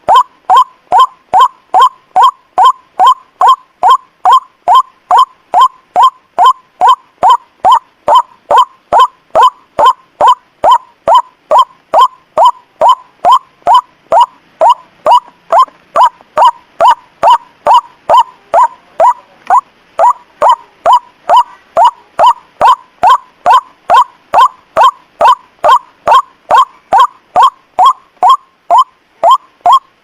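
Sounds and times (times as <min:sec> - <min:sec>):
waterhen call sweeping up: 0:00.0 - 0:30.0.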